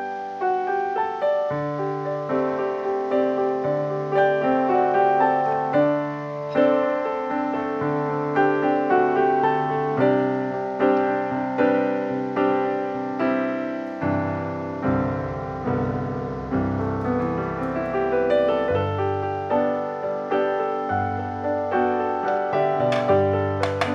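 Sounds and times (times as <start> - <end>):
piano music: 0.0 - 23.9.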